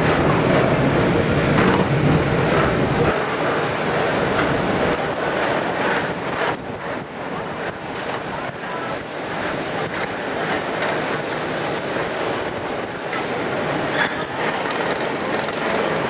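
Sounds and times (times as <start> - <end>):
wind rushing: 0.0 - 15.6
ride car rolling on track: 0.0 - 16.0.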